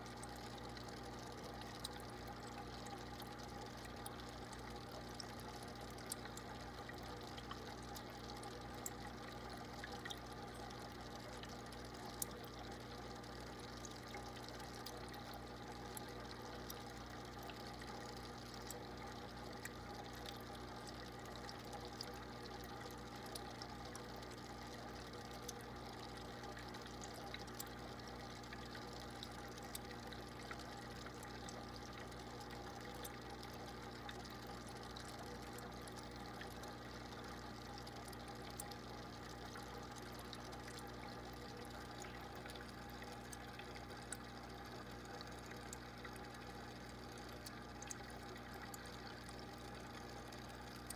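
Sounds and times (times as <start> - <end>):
aquarium water trickling: 0.0 - 50.9.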